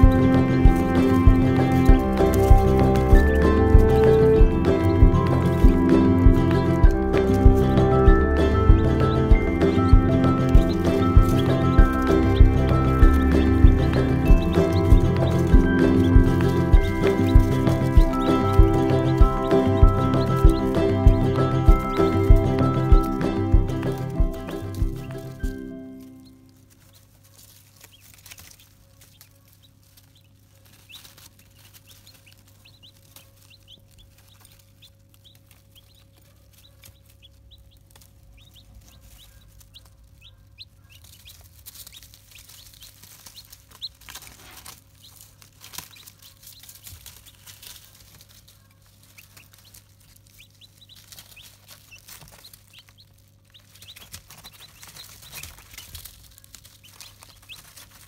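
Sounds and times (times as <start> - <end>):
chicks pecking at feed dish: 0.0 - 58.0
chicks peeping: 0.0 - 58.0
steady low hum: 0.0 - 58.0.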